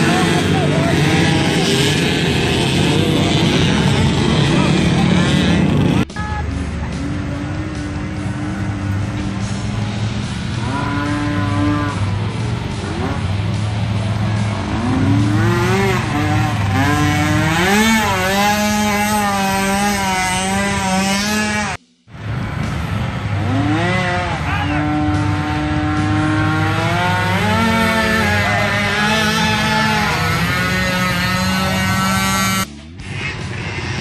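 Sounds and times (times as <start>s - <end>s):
atv engines revving: 0.0s - 34.0s.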